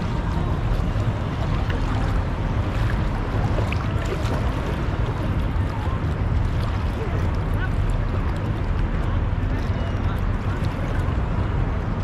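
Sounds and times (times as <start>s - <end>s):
boat engine drone: 0.0s - 12.0s
water washing around hull: 0.0s - 12.0s.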